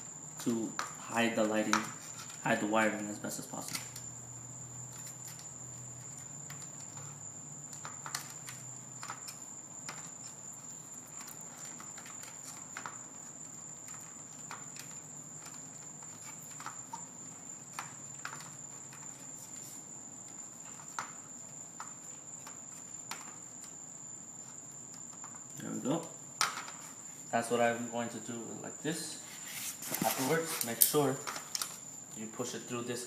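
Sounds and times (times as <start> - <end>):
faint high whine: 0.0 - 33.0.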